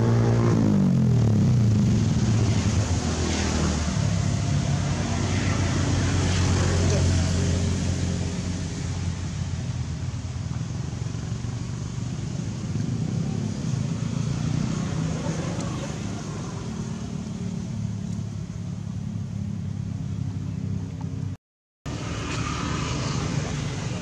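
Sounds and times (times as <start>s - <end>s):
engine running hum: 0.0s - 24.0s.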